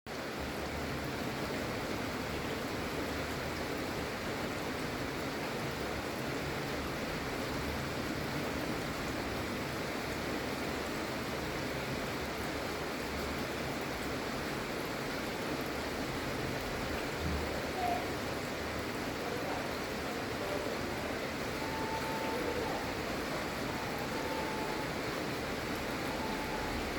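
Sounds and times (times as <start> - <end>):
gentle rain falling: 0.1 - 26.9.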